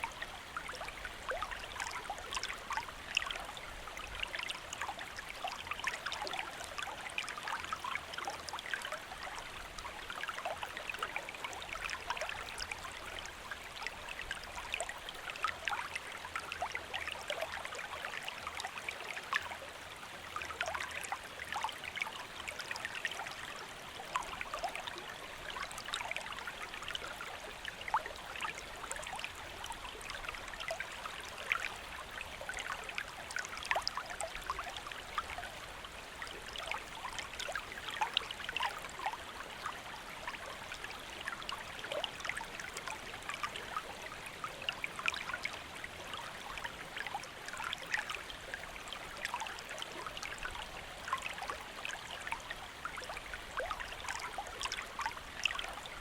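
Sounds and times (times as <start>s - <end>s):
shallow stream flowing: 0.0s - 56.0s.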